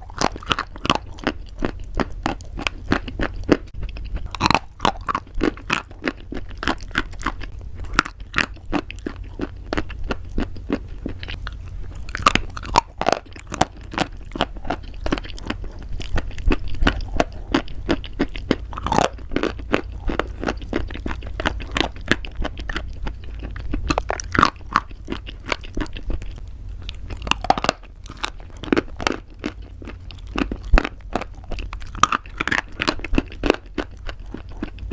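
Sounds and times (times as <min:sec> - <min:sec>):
chewing crunchy pasta: 0:00.0 - 0:34.9
steady low hum: 0:00.0 - 0:34.9.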